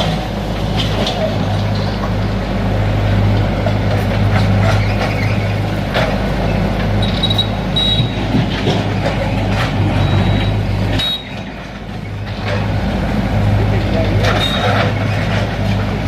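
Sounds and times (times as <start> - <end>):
large engine humming: 0.0 - 16.0.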